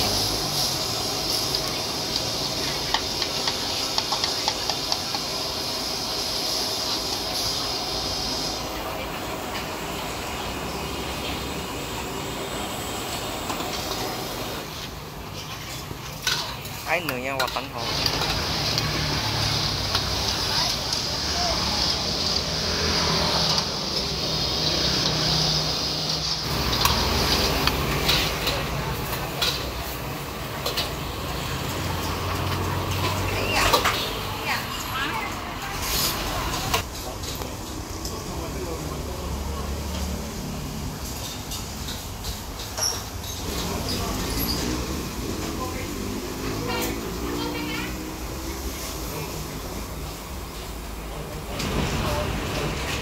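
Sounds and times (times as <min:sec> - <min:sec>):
oil sizzling in a wok: 0:00.0 - 0:53.0.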